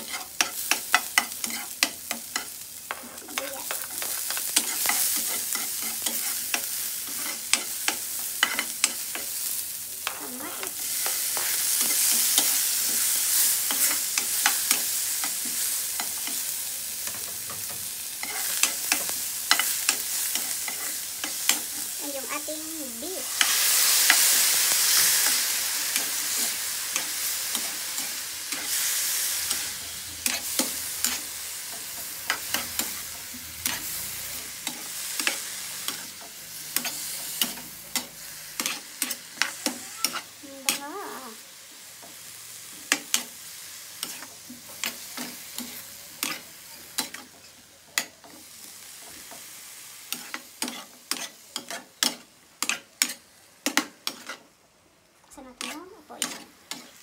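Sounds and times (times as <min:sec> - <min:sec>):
spatula scraping and tapping pan: 0:00.0 - 0:09.4, 0:10.0 - 0:21.9, 0:23.4 - 0:40.8, 0:42.8 - 0:43.4, 0:44.0 - 0:54.6, 0:55.5 - 0:57.0
beef sizzling in hot oil: 0:00.0 - 0:57.0.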